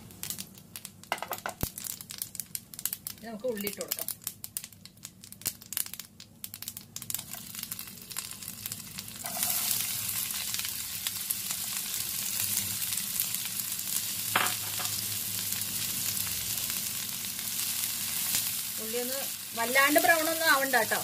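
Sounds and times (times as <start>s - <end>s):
onions sizzling in oil: 0.0s - 21.0s
seeds crackling in hot oil: 0.0s - 21.0s.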